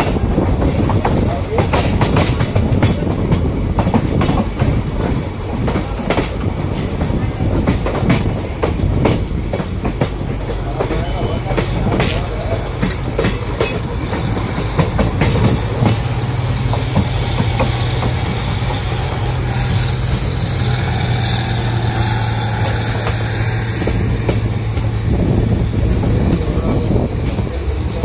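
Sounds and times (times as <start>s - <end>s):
train wheels clattering over joints: 0.0s - 28.0s.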